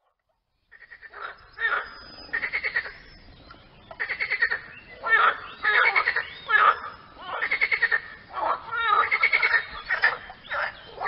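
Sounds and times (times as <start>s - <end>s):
frogs croaking: 0.6s - 11.0s.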